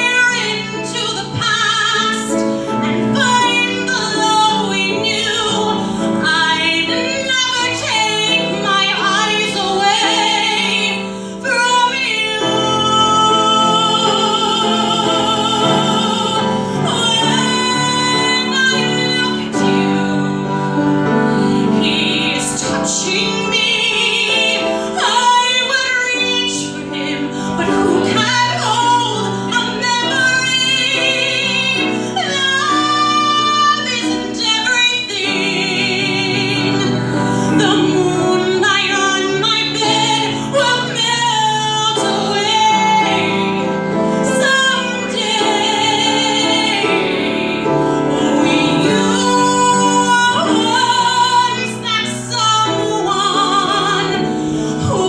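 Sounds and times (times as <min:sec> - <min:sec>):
grand piano: 0:00.0 - 0:55.0
woman singing with vibrato: 0:00.0 - 0:55.0.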